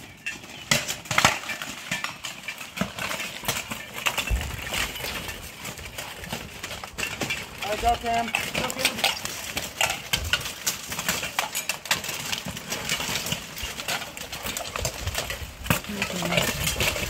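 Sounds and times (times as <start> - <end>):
armor and weapons clanking: 0.0 - 17.0.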